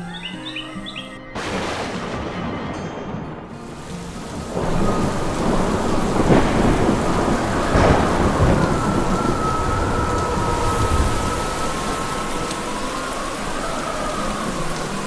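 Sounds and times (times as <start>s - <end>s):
heavy rain pouring: 1.4s - 15.0s
rolling thunder: 1.4s - 15.0s.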